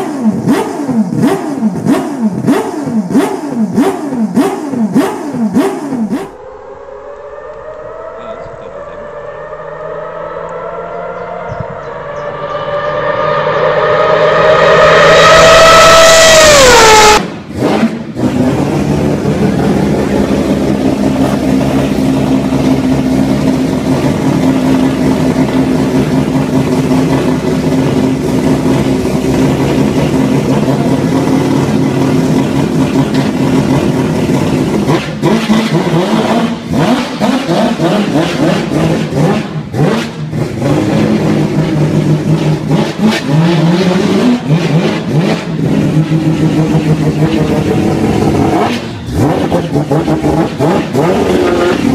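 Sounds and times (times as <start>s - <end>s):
rotary engine idling and revving: 0.0s - 51.9s.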